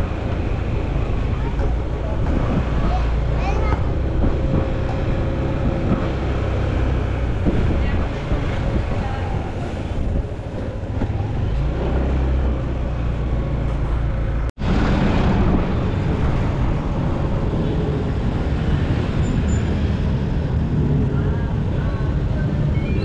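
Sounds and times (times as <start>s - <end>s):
passing vehicles: 0.0s - 23.0s
road noise: 0.0s - 23.0s.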